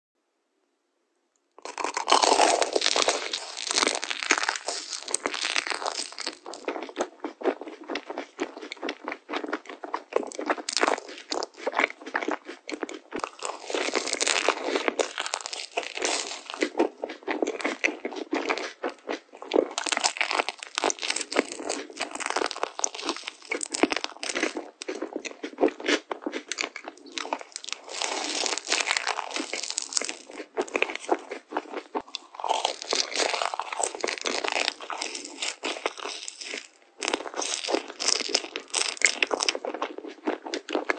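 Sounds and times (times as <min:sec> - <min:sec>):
chewing crunchy marshmallows: 0:01.6 - 0:40.9.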